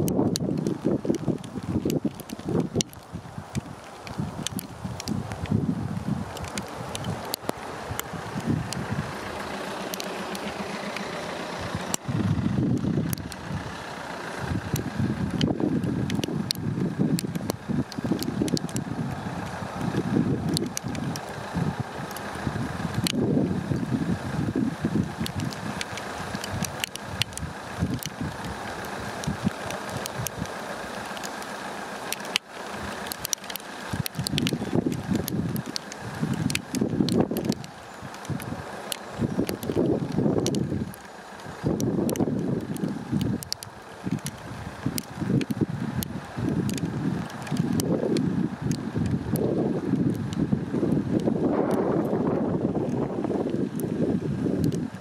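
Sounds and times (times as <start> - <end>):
wind buffeting microphone: 0.0 - 31.3, 32.8 - 55.0
sharp ticks: 0.0 - 55.0
steady outdoor hiss: 0.0 - 55.0.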